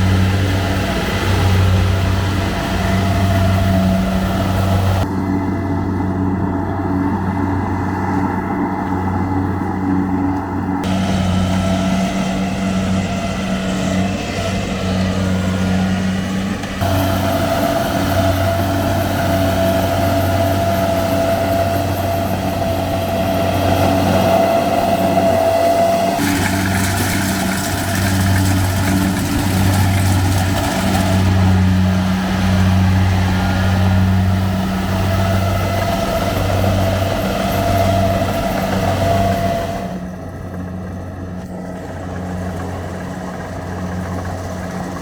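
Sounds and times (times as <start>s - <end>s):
diesel engine droning: 0.0s - 45.0s.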